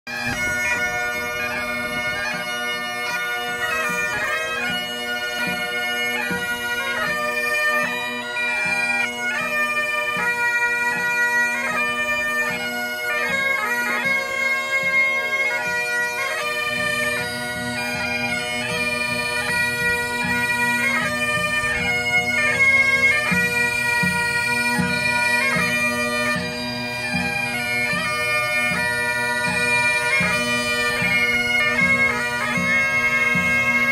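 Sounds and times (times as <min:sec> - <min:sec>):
bagpipes playing: 0:00.1 - 0:33.9.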